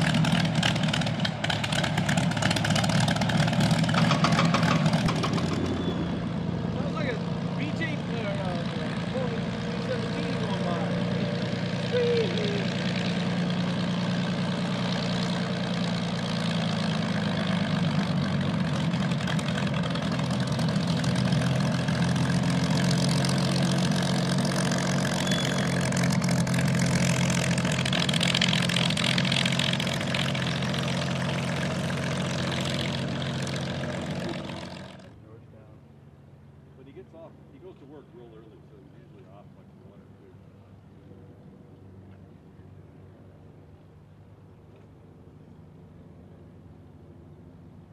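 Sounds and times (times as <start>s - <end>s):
aircraft engine running: 0.0s - 47.9s.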